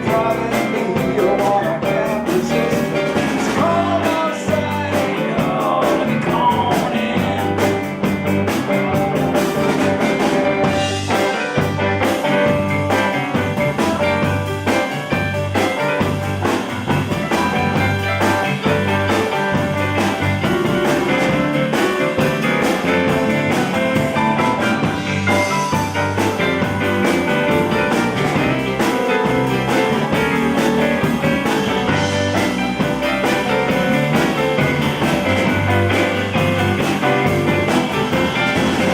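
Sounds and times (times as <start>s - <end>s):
live blues band playing: 0.0s - 38.9s
repeating bass line: 0.0s - 38.9s.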